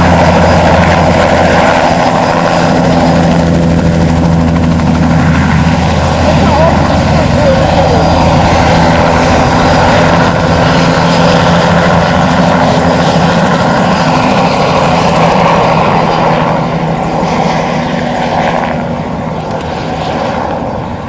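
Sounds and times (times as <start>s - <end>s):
helicopter flying past: 0.0s - 21.0s.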